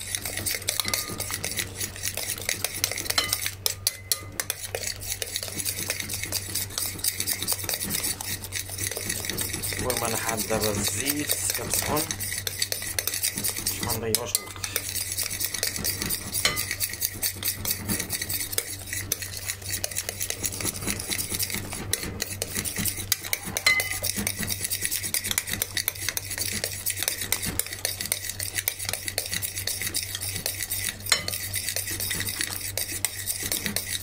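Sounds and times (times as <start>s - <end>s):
utensil beating batter in glass bowl: 0.0s - 34.0s.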